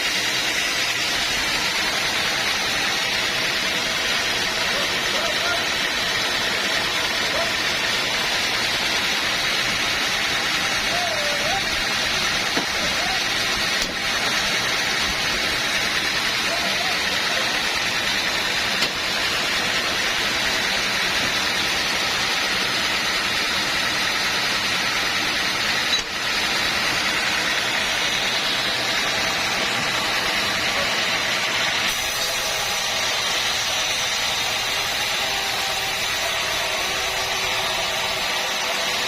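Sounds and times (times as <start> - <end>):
sawmill machinery hissing drone: 0.0 - 39.0.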